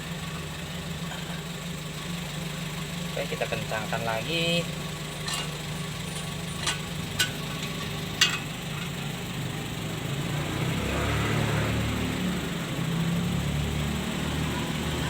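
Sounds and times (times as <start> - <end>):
engine with turbo whistle: 0.0 - 15.0.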